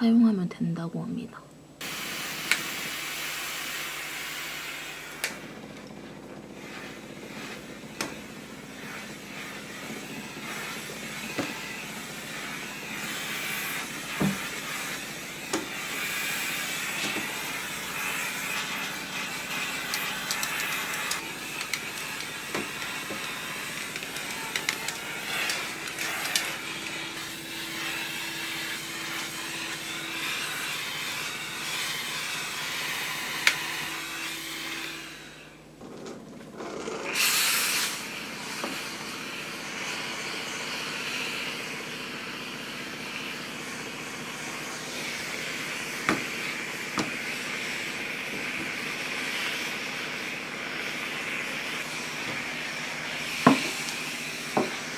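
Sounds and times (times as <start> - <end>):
garment steamer hissing: 1.8 - 35.8, 36.6 - 54.9.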